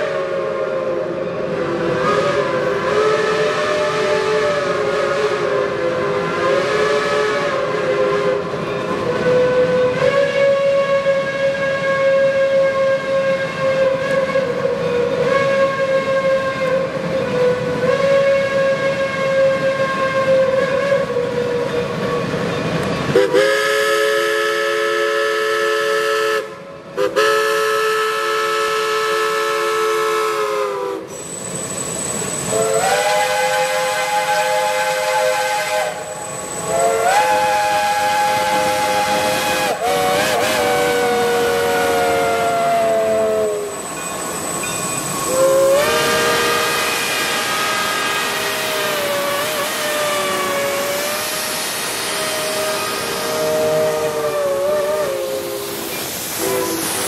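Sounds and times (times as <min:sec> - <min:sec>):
steam whistle blasts: 0:00.0 - 0:22.2, 0:23.1 - 0:57.0.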